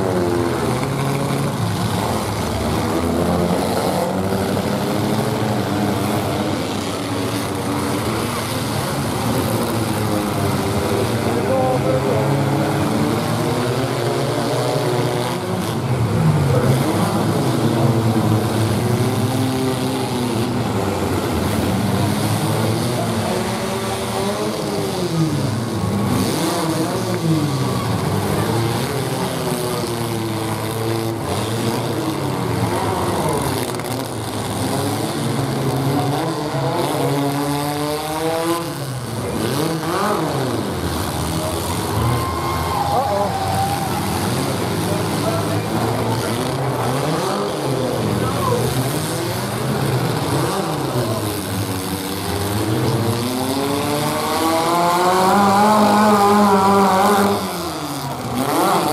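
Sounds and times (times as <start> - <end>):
truck engines revving: 0.0 - 58.9.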